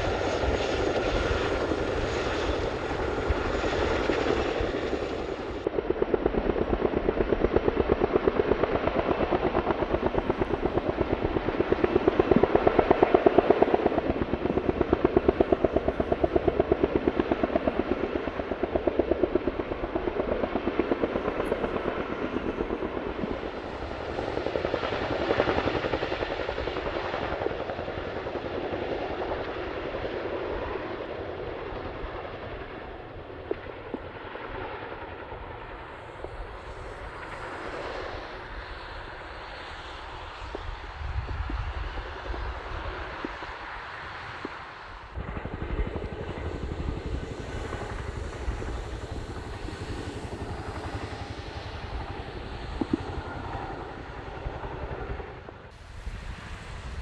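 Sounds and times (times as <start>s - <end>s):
helicopter rotor chop: 0.0s - 57.0s
helicopter turbine noise: 0.0s - 57.0s.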